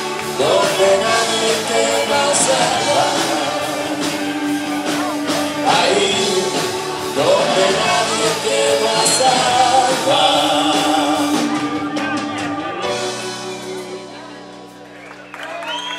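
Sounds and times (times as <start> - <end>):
live rock band playing: 0.0 - 15.9.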